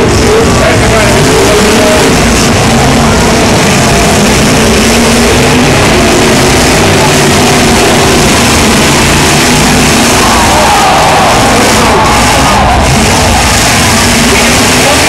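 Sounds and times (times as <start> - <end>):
car engines revving: 0.0 - 15.0
loud voices: 0.0 - 15.0.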